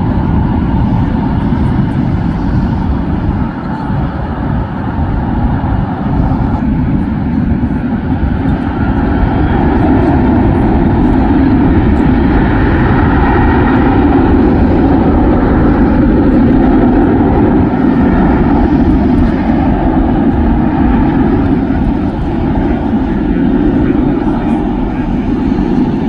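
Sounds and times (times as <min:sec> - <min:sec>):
jet airliner roar: 0:00.0 - 0:26.0.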